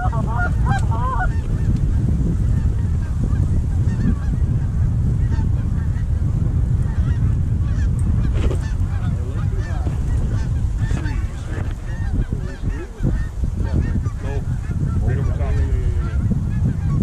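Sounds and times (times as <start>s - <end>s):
geese honking: 0.0s - 17.0s
wind rumble on microphone: 0.0s - 17.0s.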